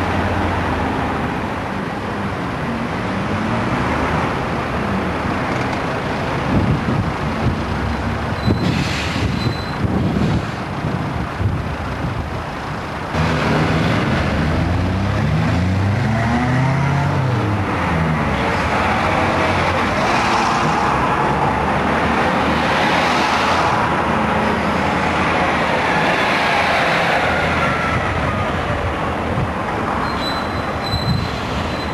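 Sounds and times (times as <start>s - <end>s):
buses driving past: 0.0s - 31.9s
road noise: 0.0s - 31.9s.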